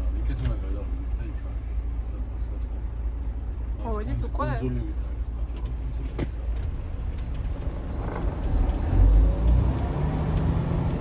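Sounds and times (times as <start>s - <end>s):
truck diesel engine rumble: 0.0s - 11.0s.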